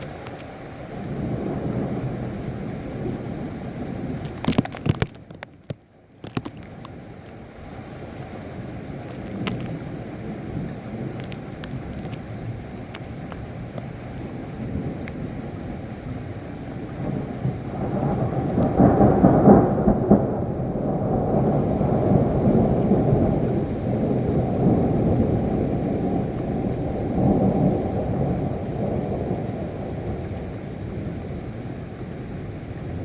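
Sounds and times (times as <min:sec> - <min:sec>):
thunder rumbling: 0:00.0 - 0:05.2, 0:08.8 - 0:33.0
steady rain: 0:00.0 - 0:33.0.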